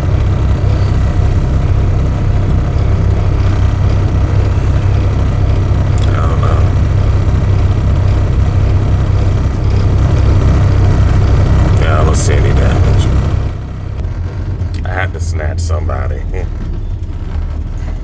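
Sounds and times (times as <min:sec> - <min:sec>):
car cabin hum: 0:00.0 - 0:17.4.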